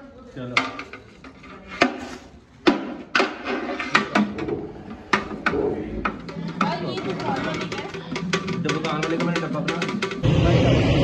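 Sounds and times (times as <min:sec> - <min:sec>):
metal ladles scraping pots: 0:00.5 - 0:10.2.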